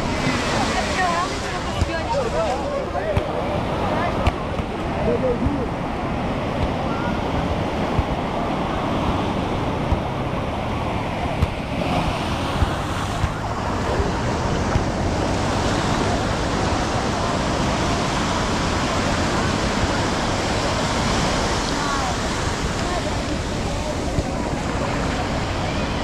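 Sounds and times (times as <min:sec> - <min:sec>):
ocean surf breaking on sand: 0:00.0 - 0:26.0.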